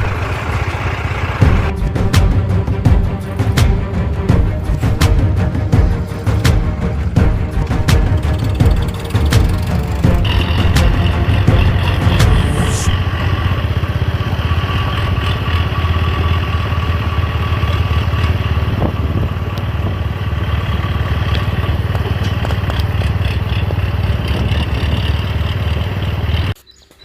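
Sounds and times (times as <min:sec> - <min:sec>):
road and wind noise: 0:00.0 - 0:27.0
vehicle engine rumble: 0:00.0 - 0:27.0.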